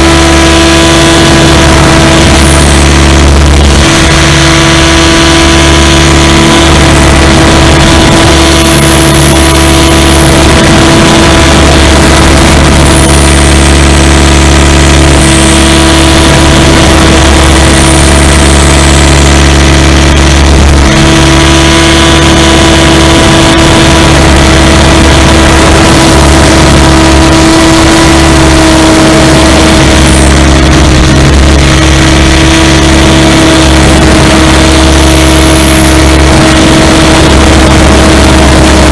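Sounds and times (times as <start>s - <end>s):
rc helicopter motor whine: 0.0s - 38.9s
wind over microphone: 0.0s - 38.9s.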